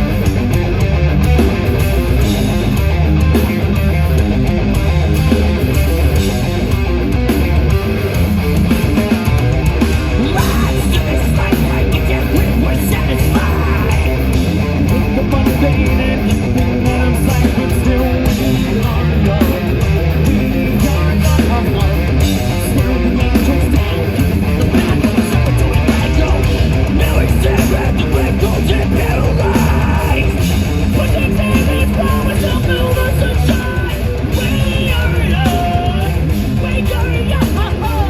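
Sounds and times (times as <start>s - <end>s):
bass: 0.0s - 38.0s
distorted electric guitars: 0.0s - 38.0s
drums: 0.0s - 38.0s.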